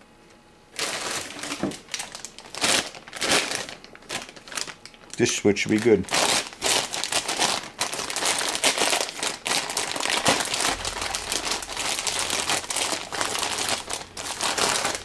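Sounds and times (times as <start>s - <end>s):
plastic bag crinkling: 0.7s - 15.0s.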